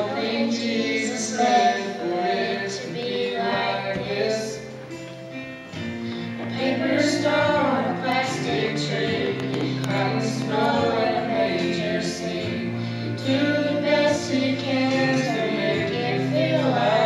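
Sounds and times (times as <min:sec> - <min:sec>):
girls singing a duet: 0:00.0 - 0:05.0, 0:06.2 - 0:17.0.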